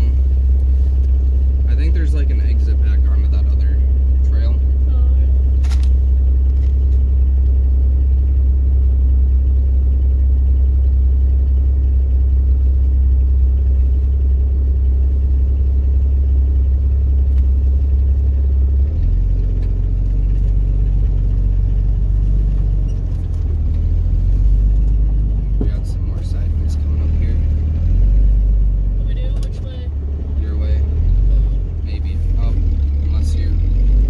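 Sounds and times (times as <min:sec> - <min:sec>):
vehicle engine low rumbling drone: 0:00.0 - 0:34.0.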